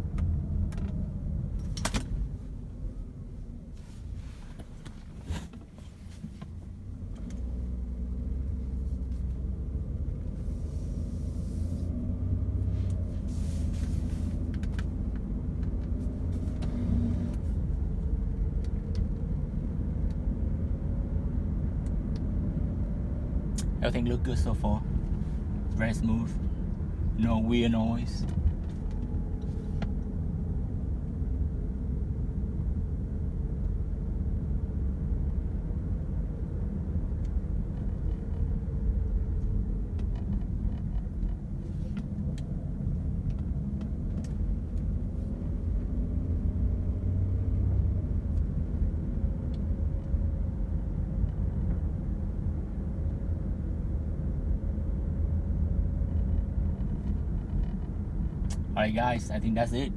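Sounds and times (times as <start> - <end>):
road and engine rumble in car cabin: 0.0 - 59.9.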